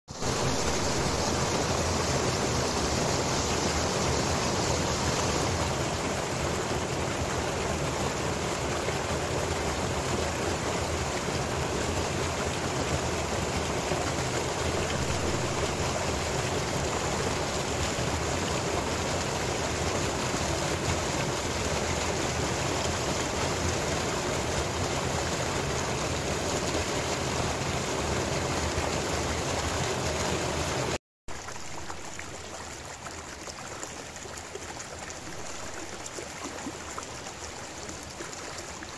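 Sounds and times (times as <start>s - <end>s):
stream rushing over rocks: 0.1s - 38.9s.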